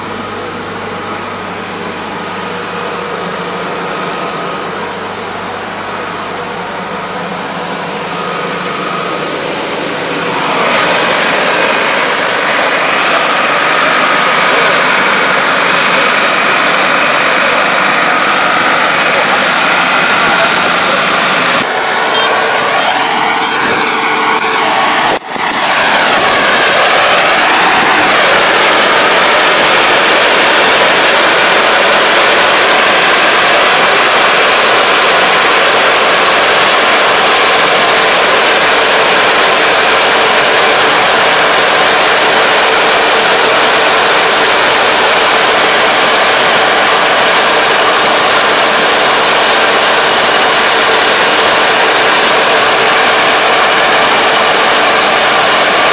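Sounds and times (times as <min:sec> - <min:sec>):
combine harvester running: 0:00.0 - 0:55.9.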